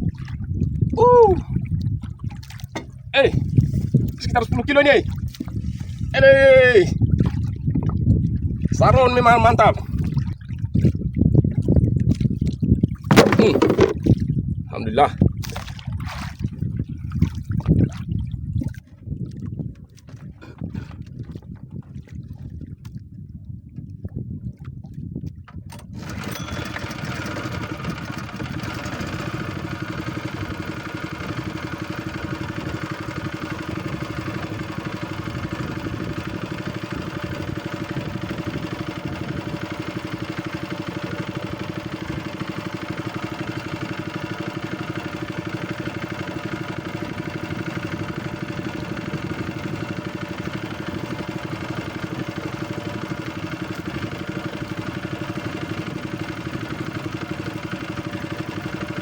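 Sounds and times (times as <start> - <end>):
boat engine humming: 0.0 - 14.4, 25.7 - 59.0.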